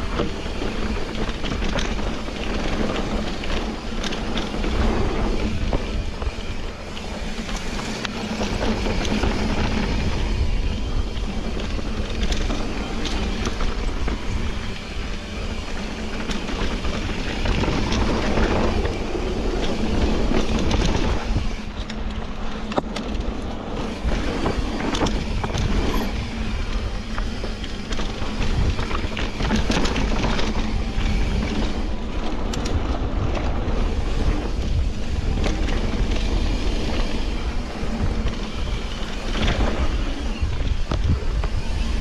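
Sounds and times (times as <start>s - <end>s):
bike clicks and rattles: 0.0s - 42.0s
wind buffeting microphone: 0.0s - 42.0s.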